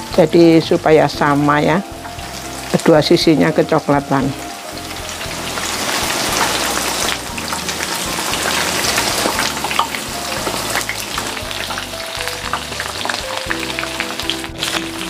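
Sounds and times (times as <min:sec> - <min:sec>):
oil popping and crackling: 0:00.0 - 0:15.0
tofu sizzling in hot oil: 0:00.0 - 0:15.0.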